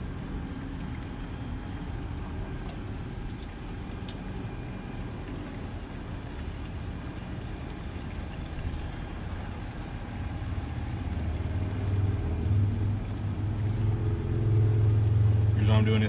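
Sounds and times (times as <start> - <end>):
low engine hum: 0.0 - 16.0
steady background hiss: 0.0 - 16.0.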